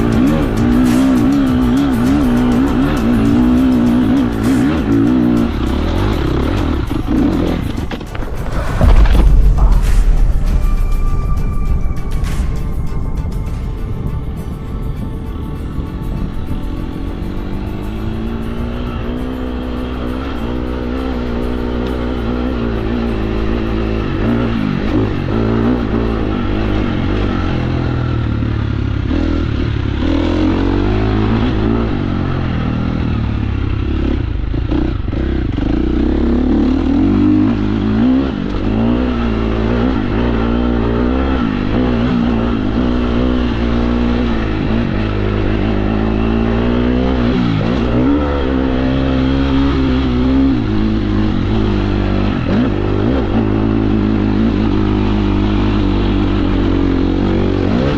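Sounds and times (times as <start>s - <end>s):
dirt bike engine revving: 0.0s - 10.0s, 16.9s - 57.9s.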